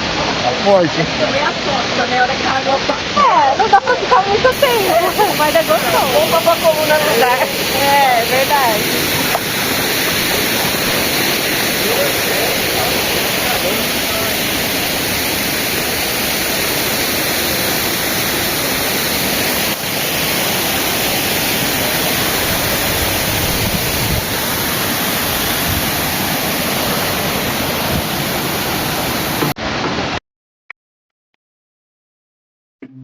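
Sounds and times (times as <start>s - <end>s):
waterfall rushing: 0.0s - 30.2s.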